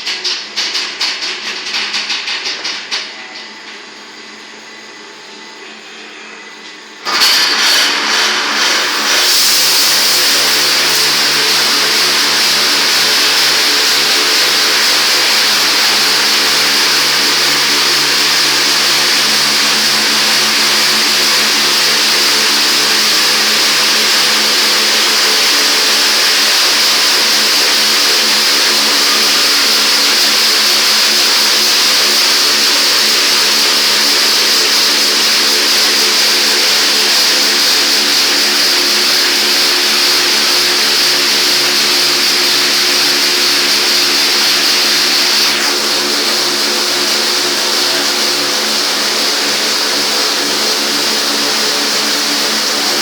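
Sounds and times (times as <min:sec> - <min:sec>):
motor hum: 0:03.2 - 0:53.0.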